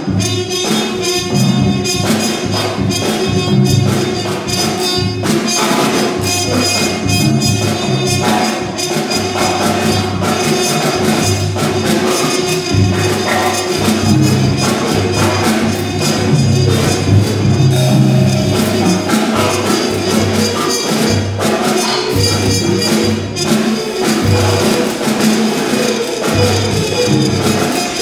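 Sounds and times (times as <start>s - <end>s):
drums and cymbals: 0.0s - 28.0s
trumpet: 0.0s - 28.0s.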